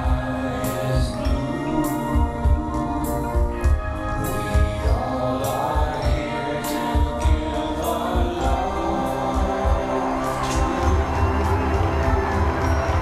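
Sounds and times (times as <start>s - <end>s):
choir-like sung harmonies: 0.0s - 13.0s
drum beat with cymbals: 0.0s - 13.0s.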